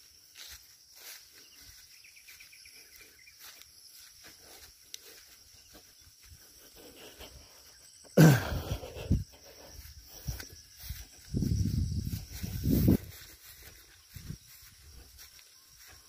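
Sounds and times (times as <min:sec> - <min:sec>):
footsteps through grass: 0:00.0 - 0:16.0
high drone of insects: 0:00.0 - 0:16.0.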